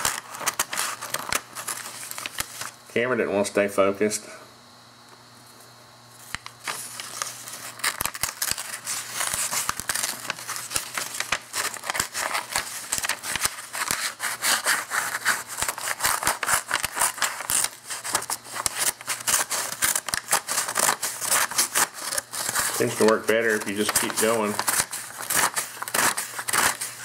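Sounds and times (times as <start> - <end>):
paper crackling and tearing: 0.0 - 2.8, 6.3 - 27.0.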